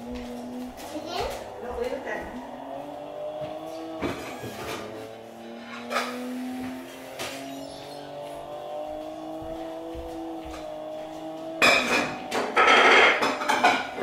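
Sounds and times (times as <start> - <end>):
steady rising hum: 0.0 - 12.6.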